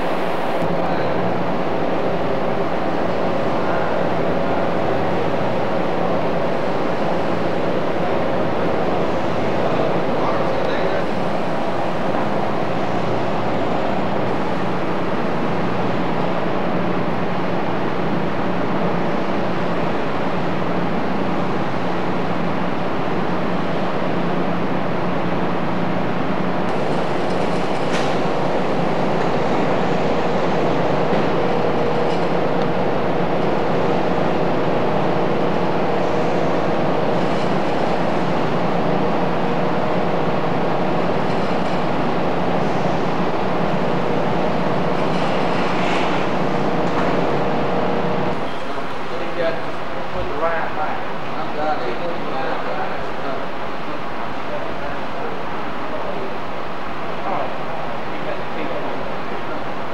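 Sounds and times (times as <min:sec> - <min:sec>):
mechanical drone with hiss: 0:00.0 - 0:54.0
faint constant hum: 0:00.0 - 0:59.9.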